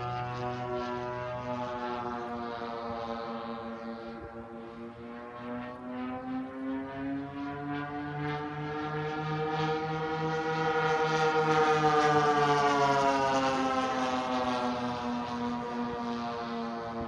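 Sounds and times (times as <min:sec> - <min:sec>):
model plane engines droning: 0:00.0 - 0:17.0.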